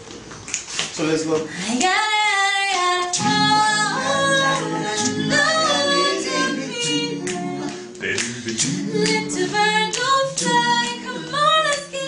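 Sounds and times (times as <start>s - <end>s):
a cappella harmony singing: 1.6s - 12.0s.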